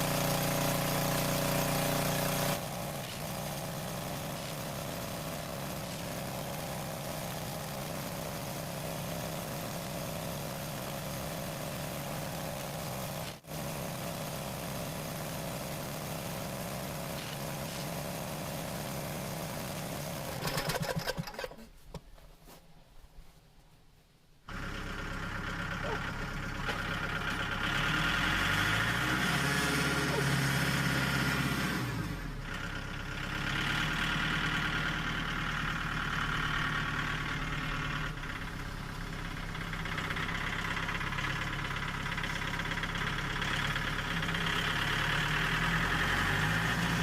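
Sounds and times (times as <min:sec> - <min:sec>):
engine running: 0:00.0 - 0:22.1, 0:24.5 - 0:47.0.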